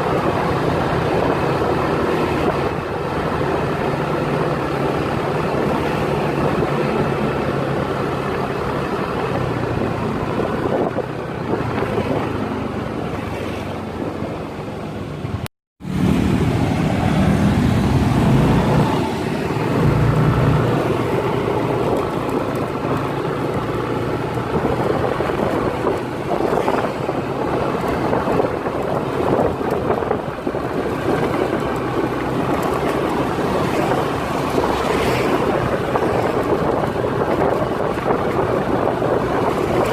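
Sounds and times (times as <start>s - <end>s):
low engine rumble: 0.0s - 39.9s
vehicle engine and road noise: 0.0s - 39.9s.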